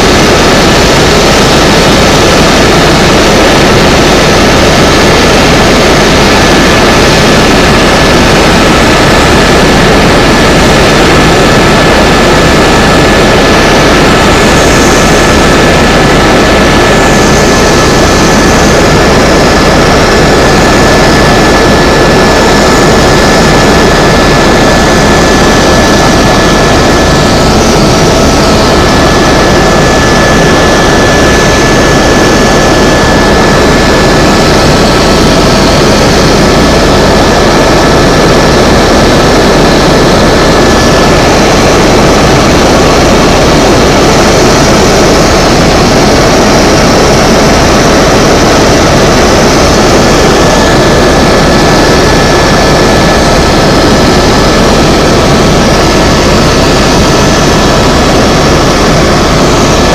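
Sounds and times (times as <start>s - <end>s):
helicopter turbine and rotor noise: 0.0s - 59.9s.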